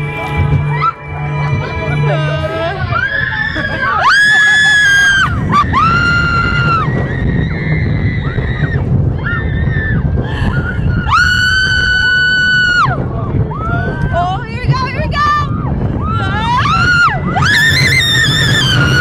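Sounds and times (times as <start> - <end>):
roller coaster train rumble: 0.0 - 19.0
riders screaming: 2.7 - 14.4, 15.2 - 19.0.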